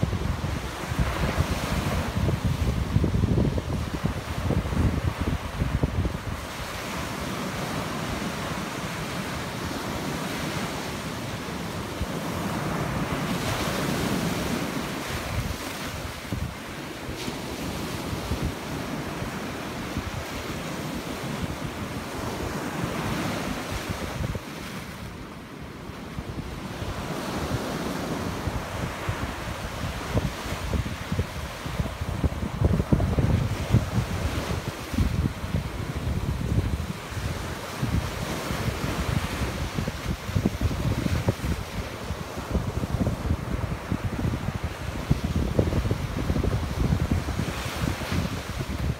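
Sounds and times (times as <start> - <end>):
wind buffeting microphone: 0.0 - 11.0, 11.8 - 25.2, 26.2 - 48.9
ocean surf breaking on rocks: 0.0 - 48.9.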